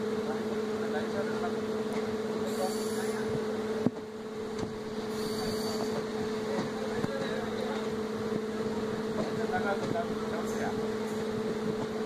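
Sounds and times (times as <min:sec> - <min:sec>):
train rumble from aboard: 0:00.0 - 0:12.0.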